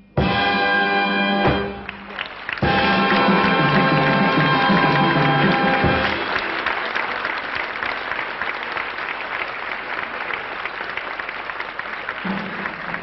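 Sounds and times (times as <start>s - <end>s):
audience applauding: 1.7s - 13.0s.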